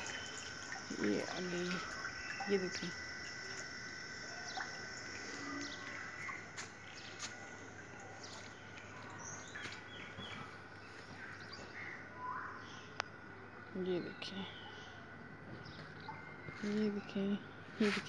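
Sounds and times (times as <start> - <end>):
birds chirping: 0.0 - 18.0
faint high whine: 0.0 - 18.0
outdoor background noise: 0.0 - 18.0.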